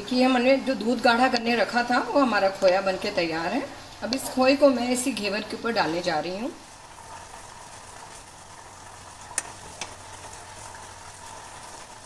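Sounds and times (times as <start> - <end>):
hot ghee sizzling: 0.0 - 12.0.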